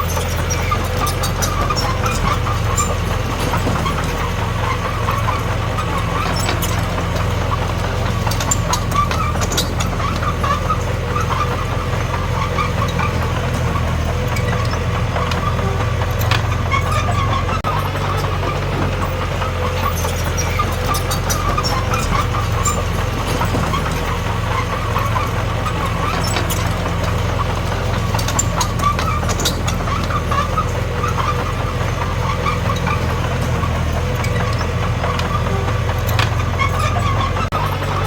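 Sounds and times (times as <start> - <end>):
bulldozer diesel engine drone: 0.0 - 38.0
light clicks and clanks: 0.0 - 38.0.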